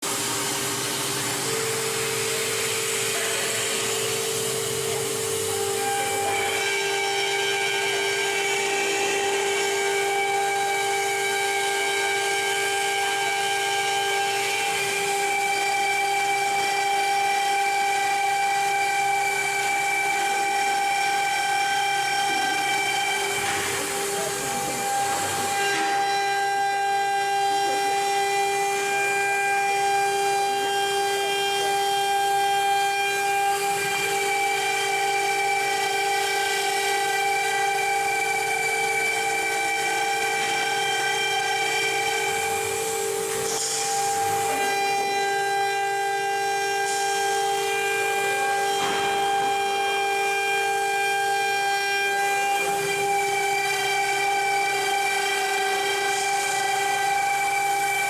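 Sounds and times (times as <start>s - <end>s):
plasma cutter whining and hissing: 0.0s - 58.0s.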